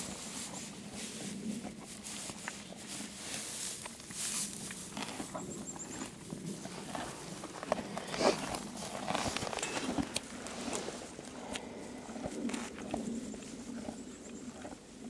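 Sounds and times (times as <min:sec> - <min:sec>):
horses chewing hay: 0:00.0 - 0:15.0.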